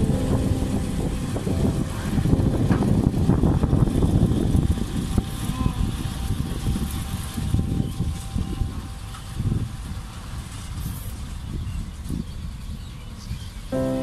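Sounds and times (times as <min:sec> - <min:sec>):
truck diesel engine rumbling: 0:00.0 - 0:14.0.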